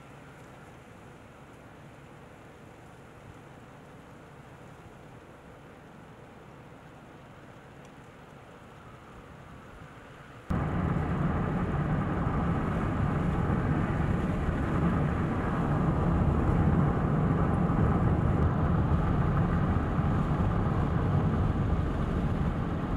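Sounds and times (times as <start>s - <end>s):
vehicle and tyre rumble on snow: 0.0s - 22.9s.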